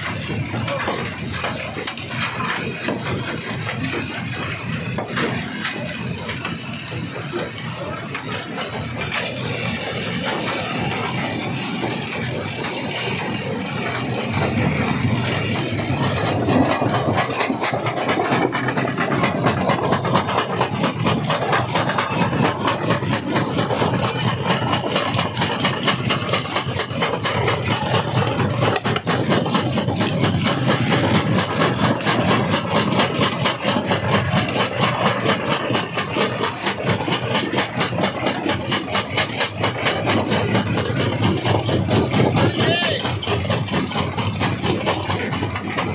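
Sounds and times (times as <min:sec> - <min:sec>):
stone-crushing machinery drone: 0:00.0 - 0:45.9.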